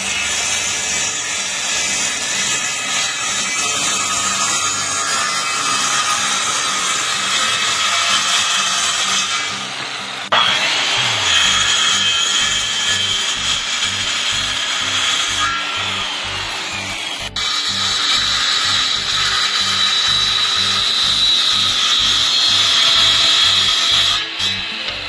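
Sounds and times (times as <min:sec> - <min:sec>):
circular saw cutting wood: 0:00.0 - 0:25.0.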